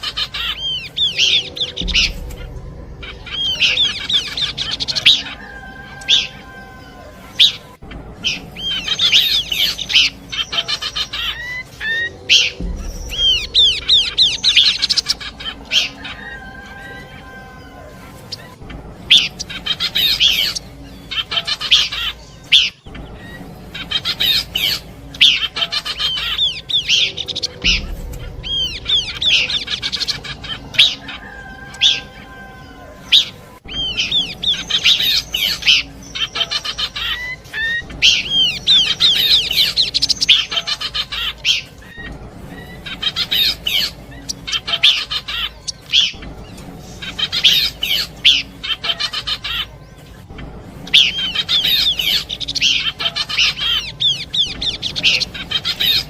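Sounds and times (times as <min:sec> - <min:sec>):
bird chattering song: 0:00.0 - 0:56.0.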